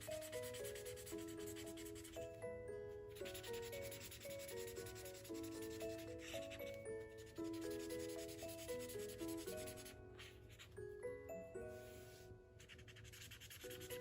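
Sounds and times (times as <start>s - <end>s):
colouring strokes on paper: 0.0s - 2.4s, 3.2s - 10.8s, 11.7s - 14.0s
soft instrumental music: 0.0s - 14.0s.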